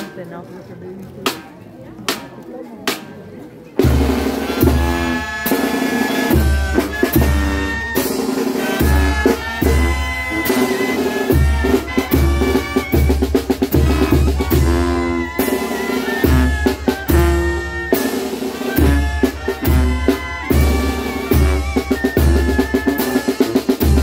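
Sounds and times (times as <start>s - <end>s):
upbeat brass band music: 3.8s - 24.0s.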